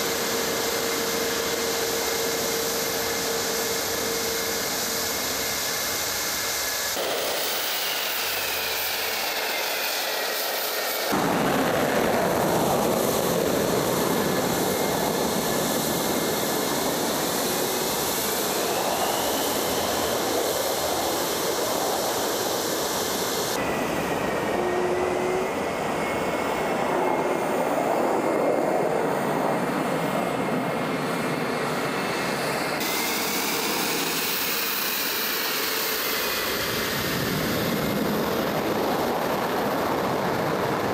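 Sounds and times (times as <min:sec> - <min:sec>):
jet engine roar: 0:00.0 - 0:40.9
jet turbine whine: 0:00.0 - 0:40.9.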